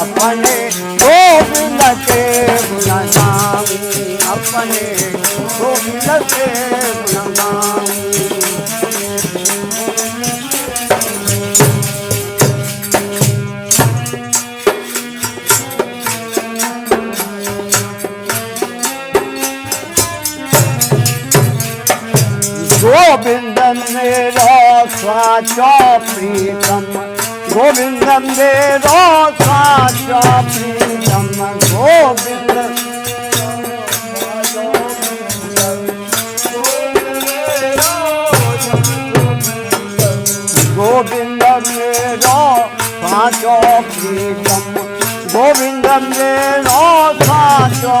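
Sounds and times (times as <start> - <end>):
drum beat: 0.0 - 16.2, 19.2 - 23.8, 24.4 - 48.0
rattling hand percussion: 0.0 - 48.0.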